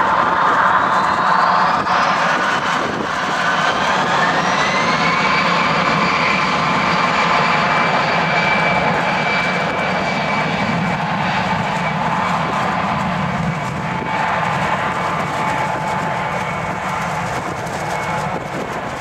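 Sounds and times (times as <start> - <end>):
jet engines spooling up: 0.0 - 19.0
rising engine whine: 0.0 - 19.0.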